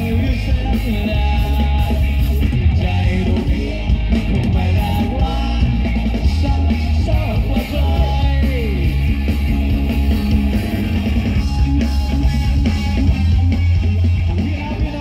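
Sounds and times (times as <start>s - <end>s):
bass guitar: 0.0s - 15.0s
electric guitar: 0.0s - 15.0s
rock band playing loudly: 0.0s - 15.0s.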